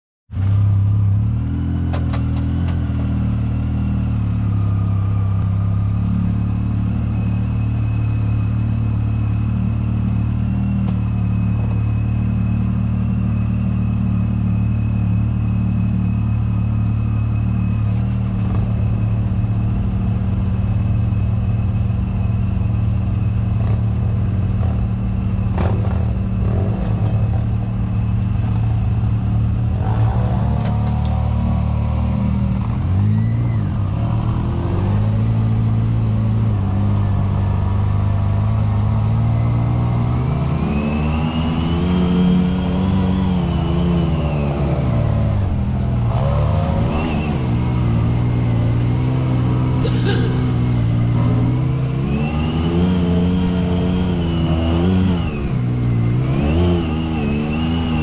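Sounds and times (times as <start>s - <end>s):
vehicle engine running: 0.3s - 58.0s.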